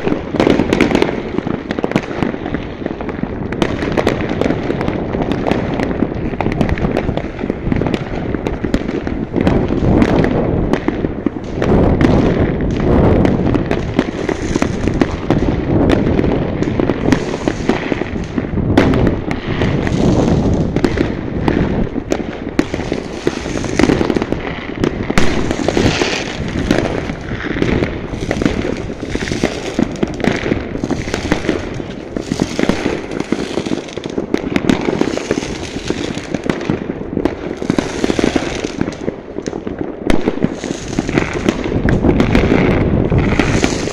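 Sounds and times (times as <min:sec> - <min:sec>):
fireworks banging and crackling: 0:00.0 - 0:43.9.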